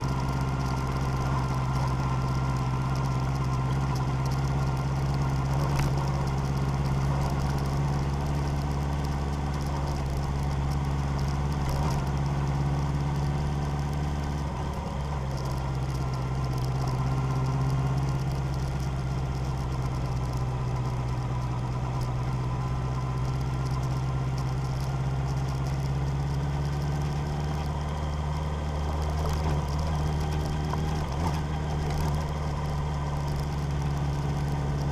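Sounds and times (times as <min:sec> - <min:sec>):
vehicle engine running at low revs: 0:00.0 - 0:34.9.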